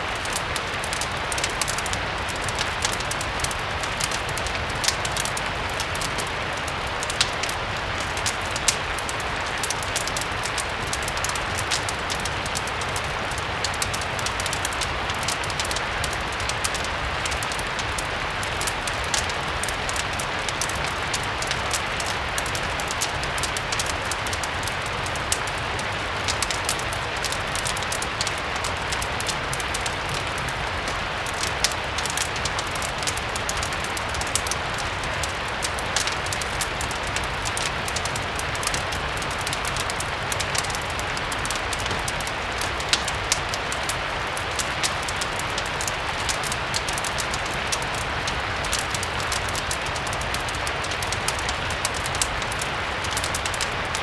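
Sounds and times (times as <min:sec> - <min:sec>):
fireplace crackle: 0:00.0 - 0:54.0
steady rain hiss: 0:00.0 - 0:54.0.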